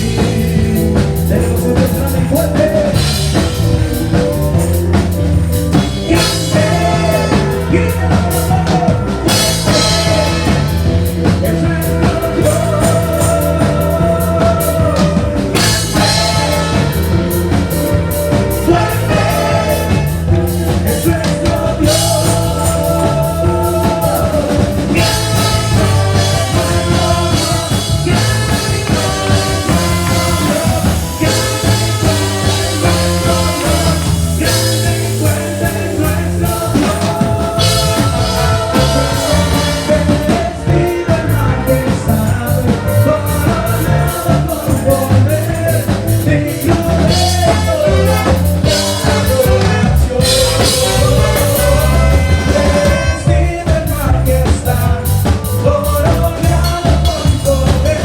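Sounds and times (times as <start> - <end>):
band playing upbeat rock song: 0.0 - 58.0
person singing: 0.0 - 58.0.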